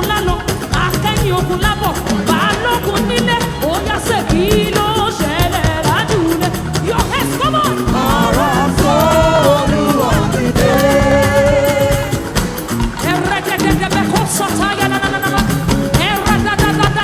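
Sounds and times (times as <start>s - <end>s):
band with percussion: 0.0s - 17.0s
voices singing gospel: 0.0s - 17.0s.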